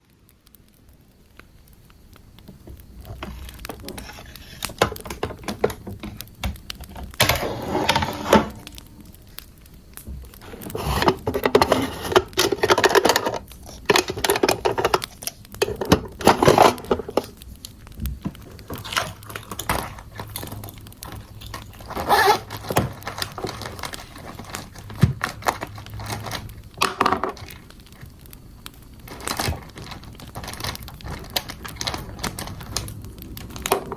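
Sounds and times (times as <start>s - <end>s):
fire crackling: 0.0s - 33.9s
rustling flare-ups: 0.0s - 33.9s.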